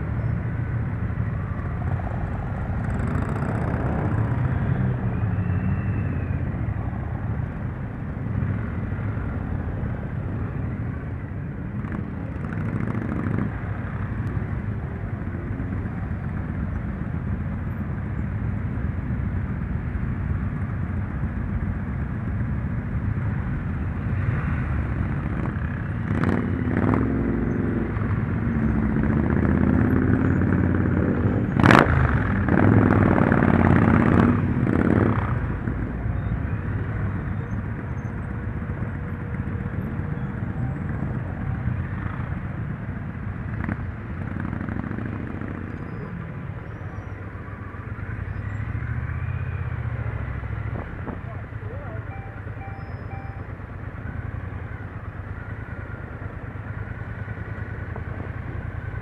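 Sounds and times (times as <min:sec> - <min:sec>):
motorcycle engines rumbling: 0:00.0 - 0:59.0.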